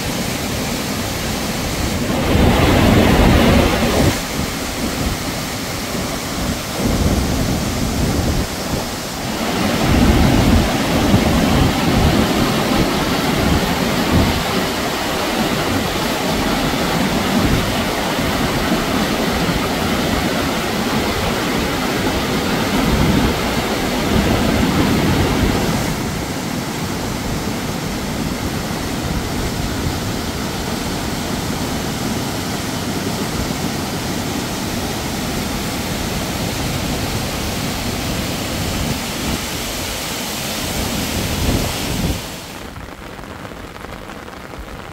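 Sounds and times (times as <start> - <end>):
turbulent water rushing: 0.0 - 44.9.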